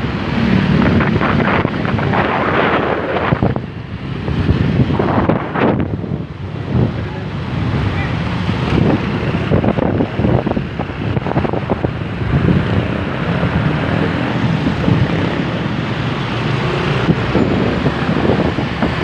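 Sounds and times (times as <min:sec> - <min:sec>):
vehicle and road noise: 0:00.0 - 0:19.0
wind buffeting microphone: 0:00.0 - 0:19.0.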